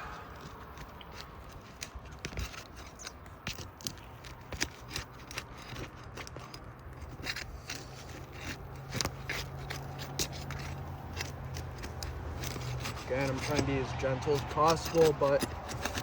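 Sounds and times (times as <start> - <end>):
tool scraping under shingles: 0.0 - 16.0.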